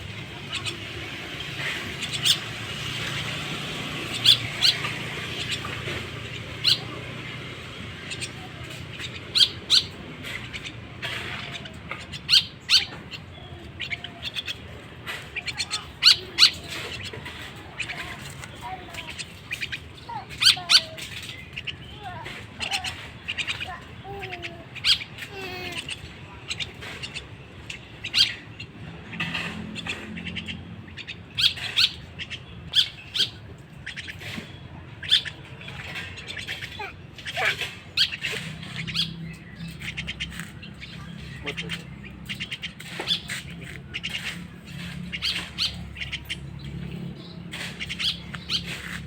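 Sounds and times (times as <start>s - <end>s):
bird chick squawking: 0.0s - 49.0s.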